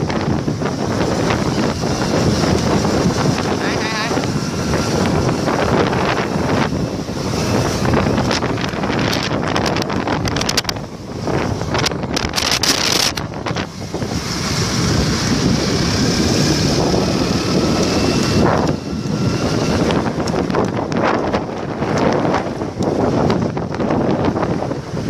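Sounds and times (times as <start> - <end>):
motorbike engine: 0.0 - 25.0
road noise: 0.0 - 25.0
wind buffeting microphone: 0.0 - 25.0.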